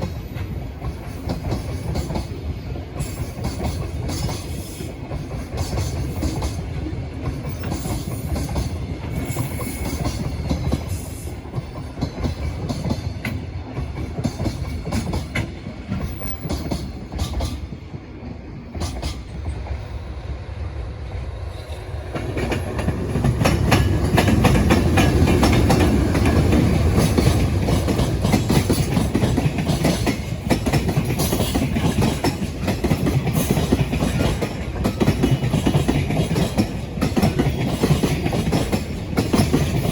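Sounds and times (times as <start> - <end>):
train wheels clattering on rails: 0.0 - 20.0, 21.2 - 39.9.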